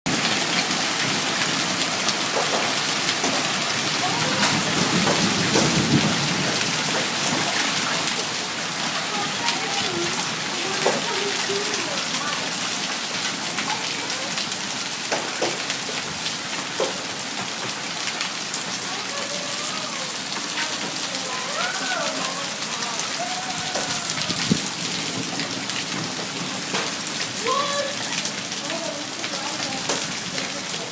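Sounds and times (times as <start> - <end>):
hailstones clattering: 0.1 - 30.9.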